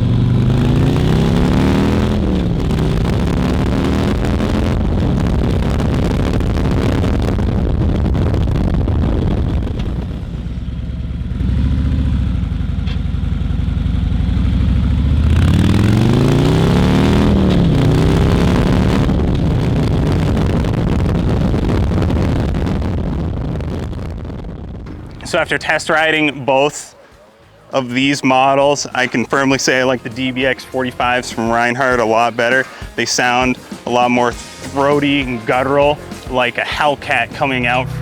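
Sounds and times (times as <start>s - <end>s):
motorcycle exhaust revving: 0.0s - 38.0s.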